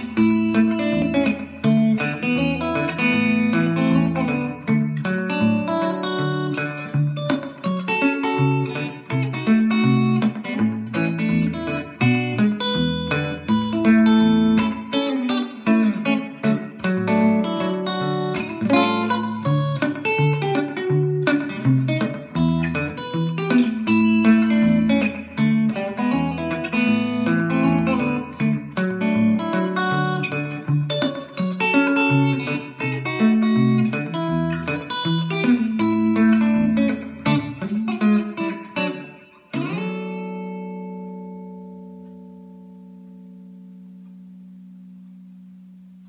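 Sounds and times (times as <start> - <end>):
electric guitar fingerstyle melody: 0.0 - 46.0.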